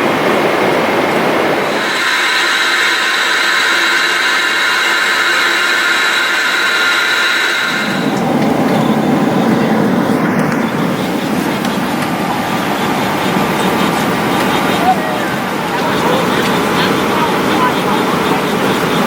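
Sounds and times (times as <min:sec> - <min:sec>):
deep rough engine rumble: 0:00.0 - 0:19.0
jet engine whine in cabin: 0:00.0 - 0:19.0.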